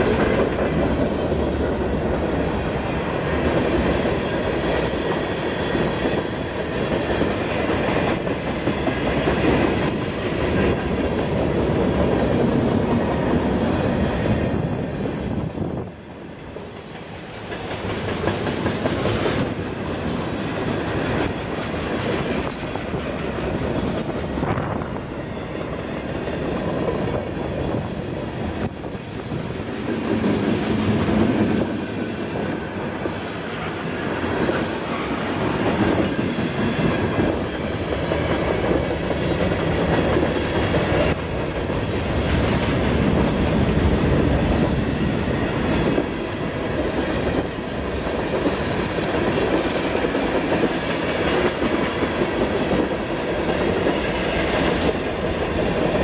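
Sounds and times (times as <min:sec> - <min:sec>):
freight cars rumbling on rails: 0:00.0 - 0:56.0.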